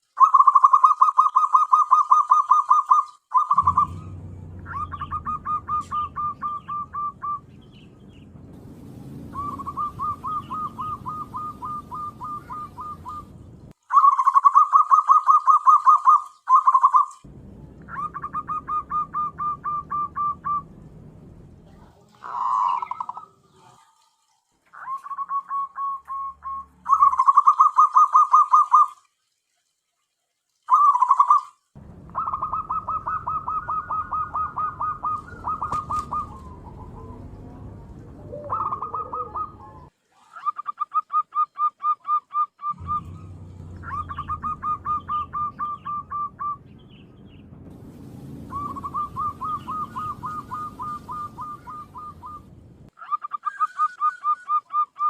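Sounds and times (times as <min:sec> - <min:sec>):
dove cooing: 0:00.2 - 0:08.0, 0:08.9 - 0:17.1, 0:17.8 - 0:20.9, 0:22.0 - 0:23.9, 0:24.7 - 0:28.9, 0:32.1 - 0:46.6, 0:48.4 - 0:55.0.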